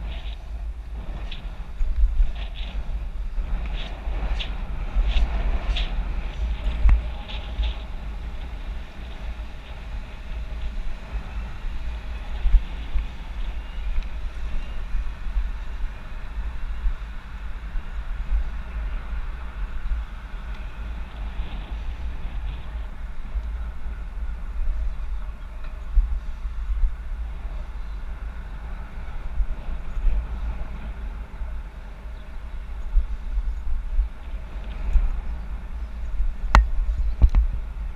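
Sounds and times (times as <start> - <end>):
road and traffic noise: 0.0 - 37.9
wind buffeting microphone: 0.0 - 37.9.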